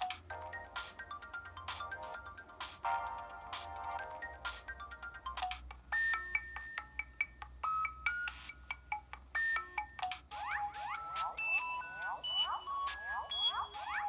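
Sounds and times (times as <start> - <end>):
phone ringtone melody: 0.0 - 14.0.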